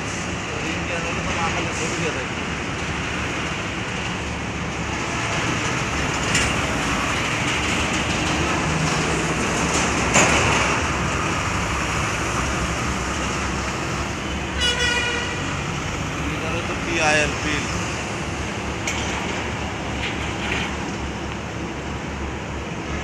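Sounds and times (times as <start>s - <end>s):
truck traffic rumble: 0.0s - 23.0s.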